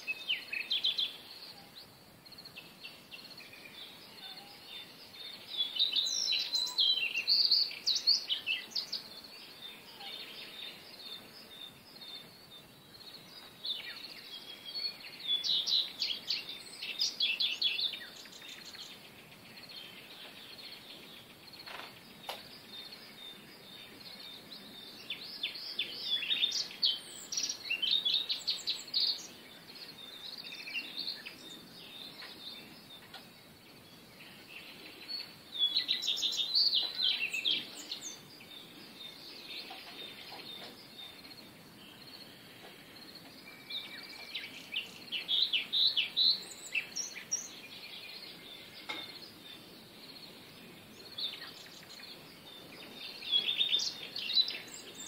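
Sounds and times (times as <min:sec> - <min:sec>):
faint outdoor hiss: 0:00.0 - 0:55.0
small birds chirping: 0:00.0 - 0:55.0.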